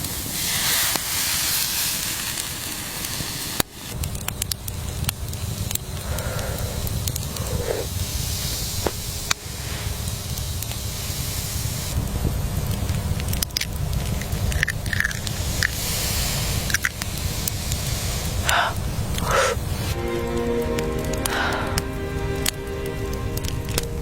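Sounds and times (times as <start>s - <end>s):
low rumble and hiss: 0.0s - 24.0s
sharp crackles and clicks: 0.0s - 24.0s.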